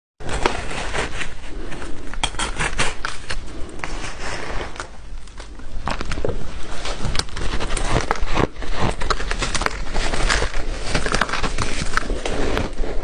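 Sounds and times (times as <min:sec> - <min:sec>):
ice being chewed: 0:01.5 - 0:13.0.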